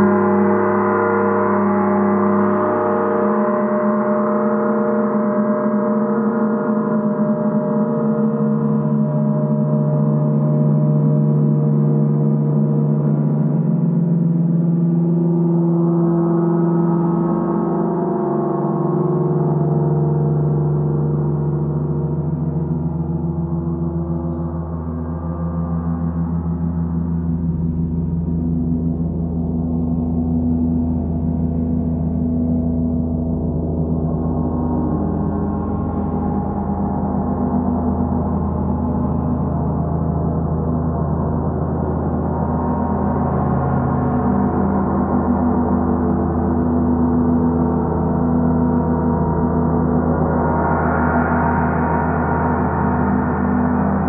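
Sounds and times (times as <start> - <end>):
gongs shimmering drone: 0.0 - 54.0.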